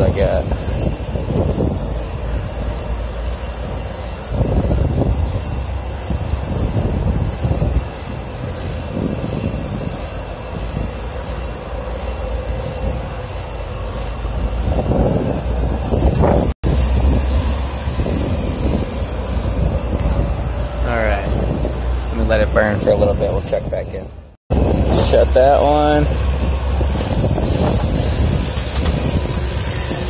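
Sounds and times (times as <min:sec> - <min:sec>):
vacuum pump droning: 0:00.0 - 0:30.0.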